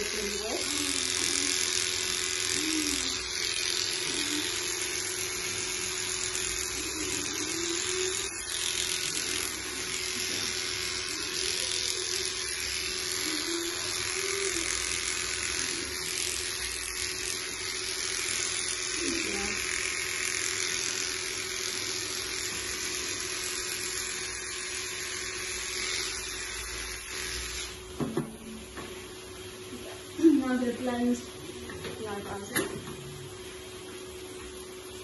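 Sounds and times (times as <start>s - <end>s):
electric clippers buzzing: 0.0s - 31.2s.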